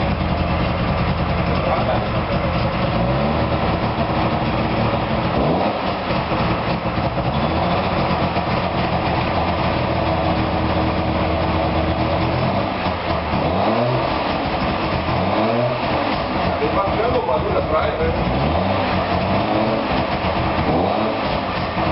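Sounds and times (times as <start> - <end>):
two-stroke engine revving: 0.0 - 21.9.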